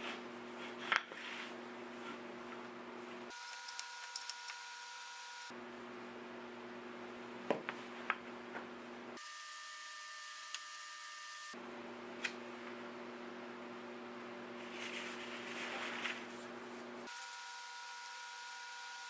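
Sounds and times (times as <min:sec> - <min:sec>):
faint room hum: 0:00.0 - 0:09.2, 0:11.5 - 0:19.0.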